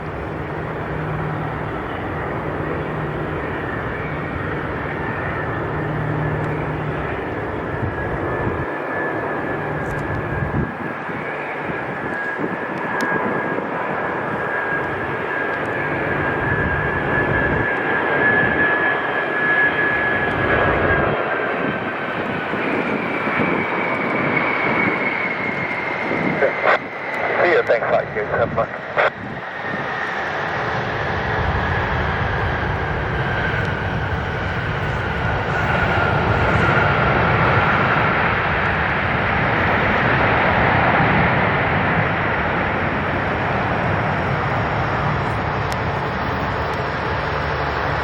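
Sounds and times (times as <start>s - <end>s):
jet airliner landing: 0.0s - 48.0s.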